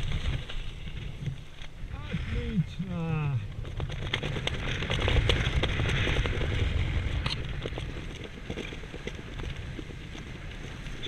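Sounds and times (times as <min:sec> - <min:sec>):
rapid crackling flutter: 0:00.0 - 0:11.0
wind buffeting microphone: 0:00.0 - 0:11.0.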